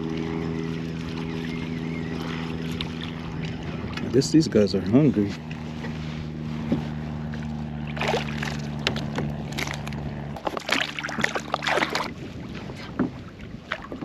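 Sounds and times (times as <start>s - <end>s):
steady low hum: 0.0s - 14.0s
water splashing and sloshing: 0.0s - 14.0s.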